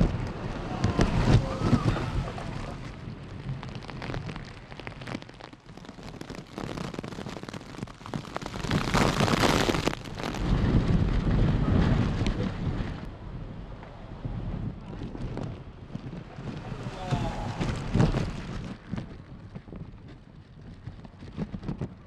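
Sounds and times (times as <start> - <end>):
heavy rain: 0.0 - 19.8
strong gusting wind: 0.0 - 22.0
wind buffeting microphone: 0.0 - 22.0.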